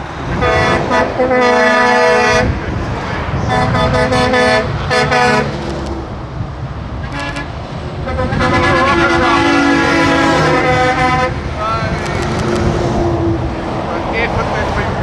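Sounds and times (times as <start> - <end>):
truck horns blasting: 0.0 - 6.2, 6.8 - 15.0
diesel engines rumbling: 0.0 - 15.0.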